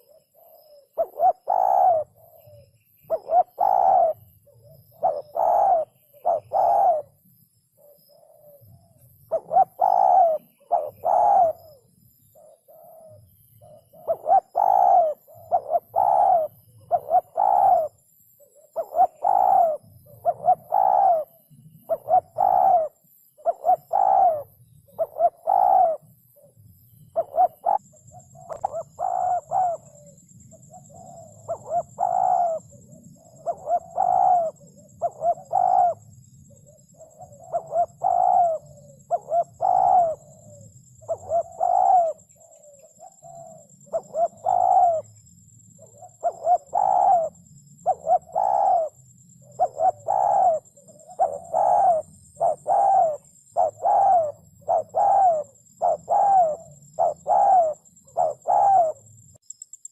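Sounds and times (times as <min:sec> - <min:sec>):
dove cooing: 0:00.0 - 0:59.2.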